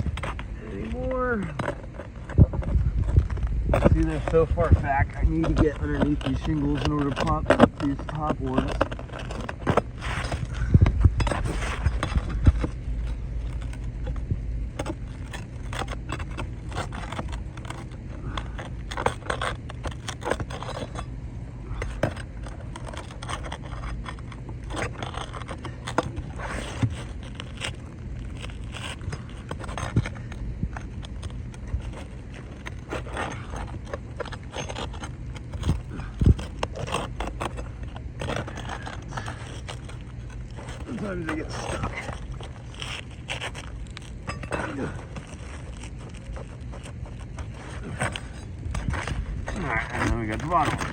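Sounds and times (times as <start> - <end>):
shingles scraping and clicking: 0.0 - 50.9.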